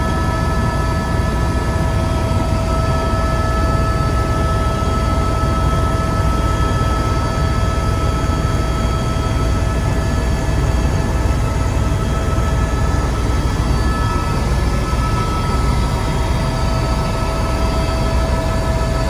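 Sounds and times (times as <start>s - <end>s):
helicopter engine and rotors rumbling: 0.0s - 19.0s
steady whining tones: 0.0s - 19.0s.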